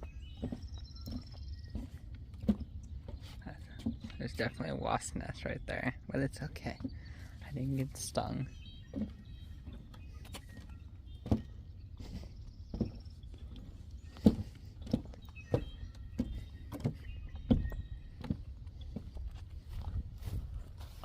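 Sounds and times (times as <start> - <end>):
footsteps on a trail: 0.0 - 5.5, 6.1 - 21.0.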